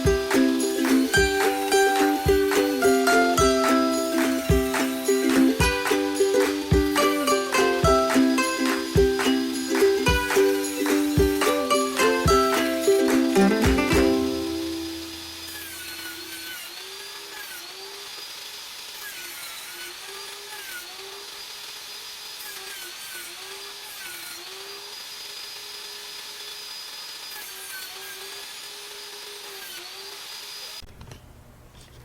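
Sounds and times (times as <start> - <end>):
electric saw cutting wood: 0.0 - 30.9.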